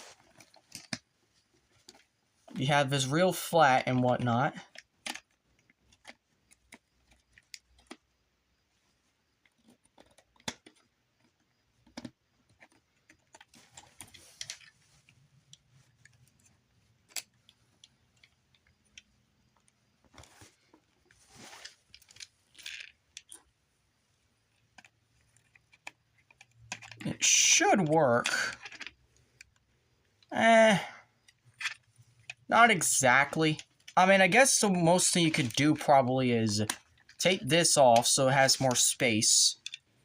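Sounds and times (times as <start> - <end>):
small plastic parts clicking: 0.2 - 2.6, 3.8 - 8.3, 9.4 - 23.6, 24.5 - 30.3, 31.2 - 37.4, 38.0 - 40.0.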